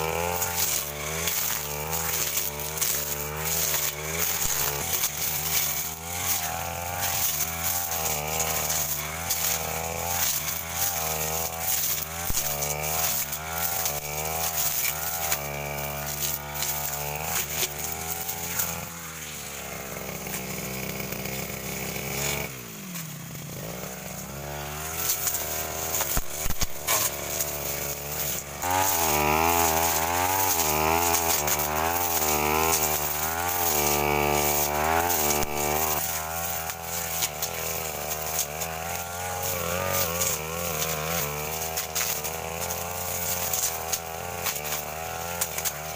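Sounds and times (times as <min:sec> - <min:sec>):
blade cutting undergrowth: 0:00.0 - 0:45.9
brush cutter engine: 0:00.0 - 0:45.9
blade ticking on strikes: 0:00.4 - 0:18.8, 0:24.9 - 0:45.9.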